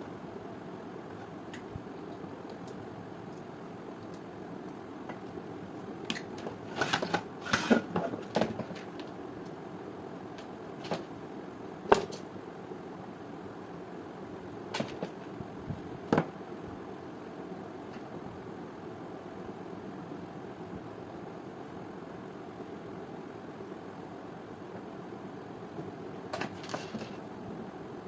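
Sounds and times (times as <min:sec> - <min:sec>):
steady low hiss: 0:00.0 - 0:28.0.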